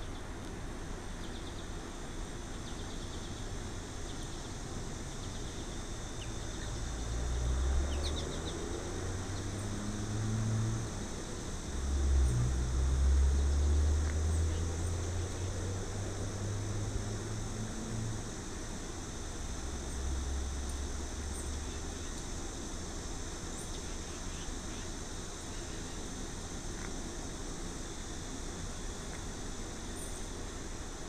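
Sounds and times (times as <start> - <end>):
small birds chirping faintly: 0.0 - 31.0
steady hiss: 0.0 - 31.0.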